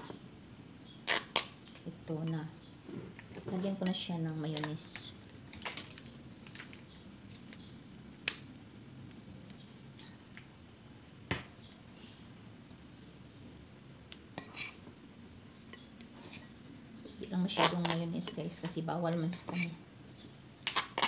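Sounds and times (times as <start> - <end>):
faint room noise: 0.0 - 21.0.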